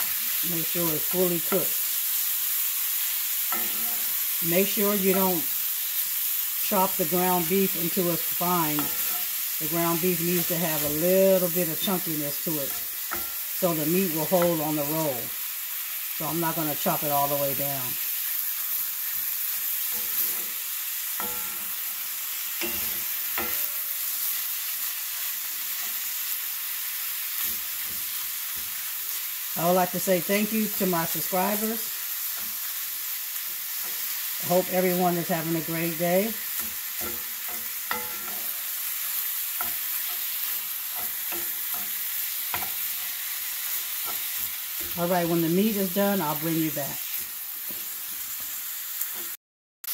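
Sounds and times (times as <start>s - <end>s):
meat sizzling in a skillet: 0.0s - 49.9s.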